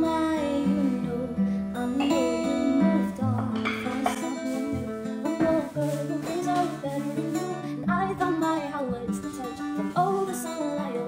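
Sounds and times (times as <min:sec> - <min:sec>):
acoustic guitar strumming: 0:00.0 - 0:11.0
woman singing: 0:00.0 - 0:11.0.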